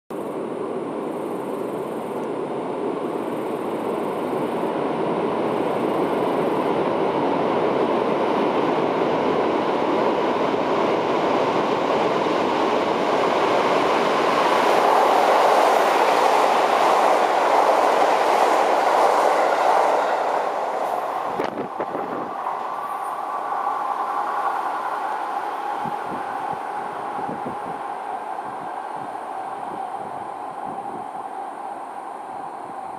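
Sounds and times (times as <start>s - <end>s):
train wheels rumbling on rails: 0.2s - 32.9s.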